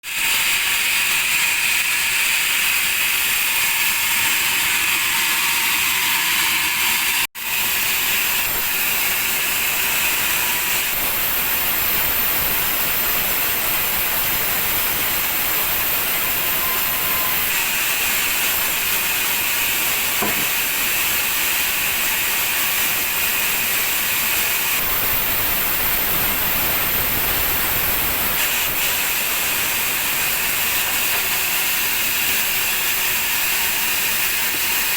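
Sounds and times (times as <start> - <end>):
sawmill saw cutting timber: 0.0 - 34.9.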